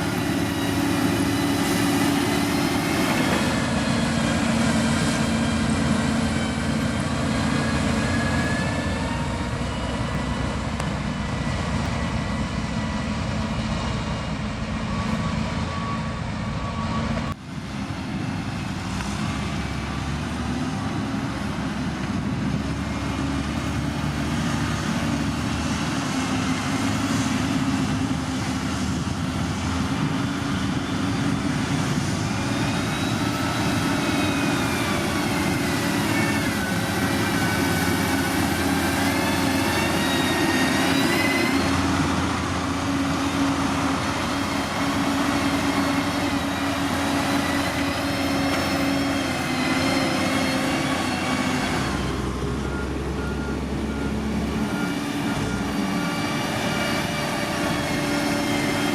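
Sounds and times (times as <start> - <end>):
diesel machinery engine drone: 0.0 - 58.9.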